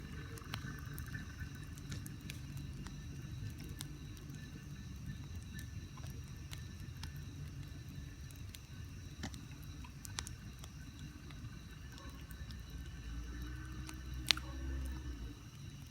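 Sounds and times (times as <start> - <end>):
bonfire crackling and popping: 0.0 - 15.9.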